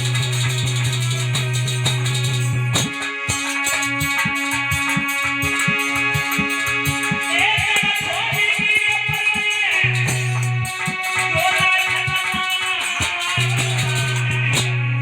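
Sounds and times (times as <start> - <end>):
instrumental band music: 0.0 - 14.6.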